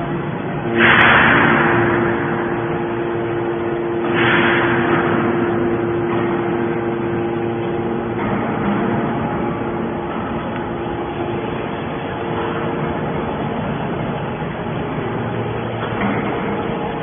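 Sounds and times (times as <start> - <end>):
hydraulic pump humming: 0.0 - 17.0.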